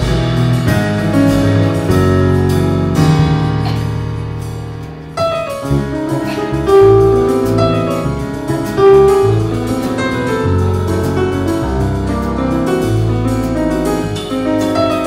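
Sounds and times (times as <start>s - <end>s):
bass notes: 0.0s - 15.0s
piano chords: 0.0s - 15.0s.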